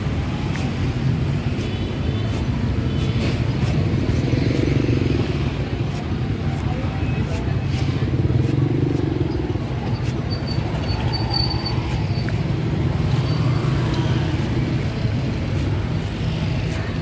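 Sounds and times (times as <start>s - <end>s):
motor traffic engine rumble: 0.0s - 17.0s.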